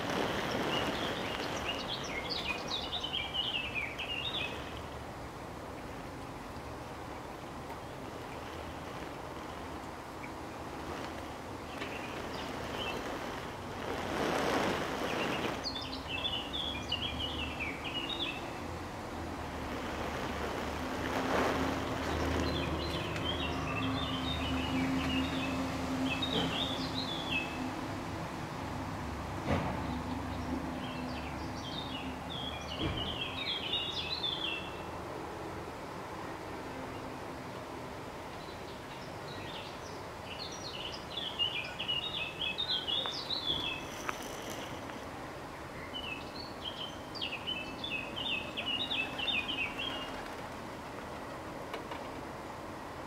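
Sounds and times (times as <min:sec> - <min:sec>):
songbird chirping: 0:00.0 - 0:27.9, 0:29.1 - 0:35.1, 0:38.3 - 0:50.6
outdoor background noise: 0:00.0 - 0:53.0.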